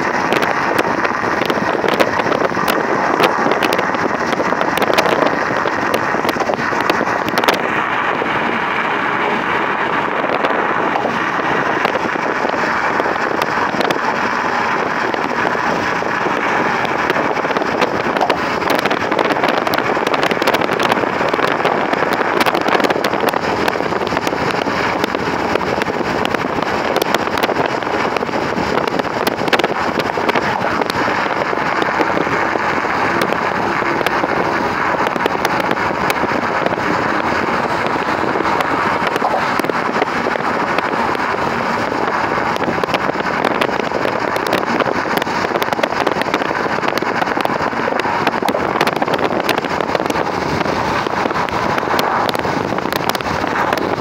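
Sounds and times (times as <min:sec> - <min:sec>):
tyre and road noise in car: 0:00.0 - 0:54.0.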